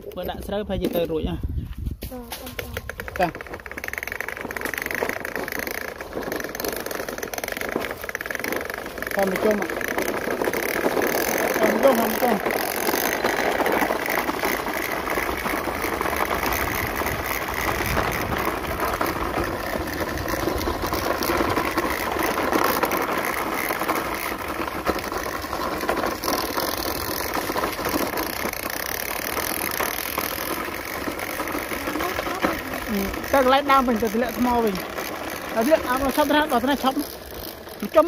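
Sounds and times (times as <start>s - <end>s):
toy car electric motor rattling: 2.0s - 38.0s.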